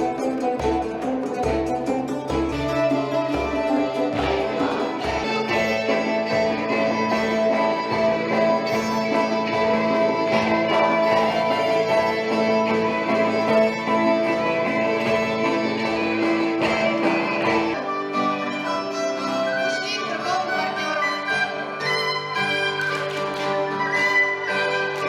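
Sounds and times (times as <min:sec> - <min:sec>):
folk music ensemble: 0:00.0 - 0:25.0
plucked strings: 0:00.0 - 0:25.0.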